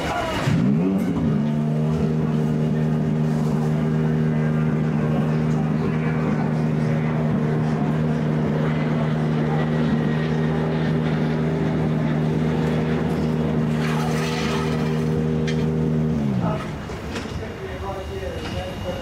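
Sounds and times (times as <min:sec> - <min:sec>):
car engine fast idle: 0:00.0 - 0:16.8.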